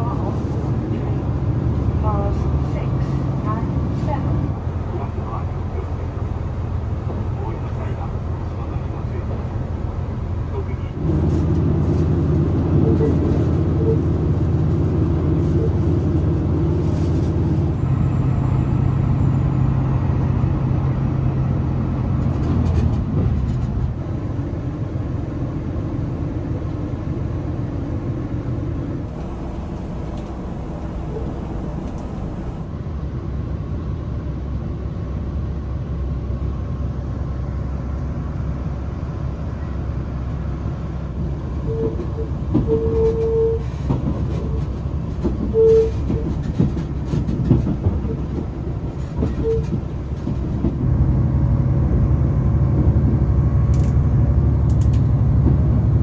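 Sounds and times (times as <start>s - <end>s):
train rumbling inside carriage: 0.0s - 56.0s.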